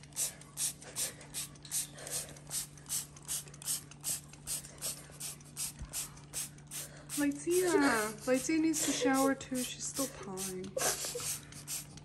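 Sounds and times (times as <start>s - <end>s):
spray bottle squirting: 0.0s - 12.0s.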